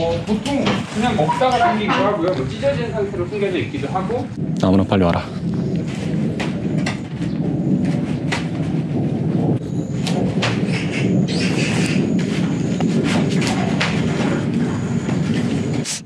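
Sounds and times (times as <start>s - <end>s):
low rumble: 1.8s - 15.9s.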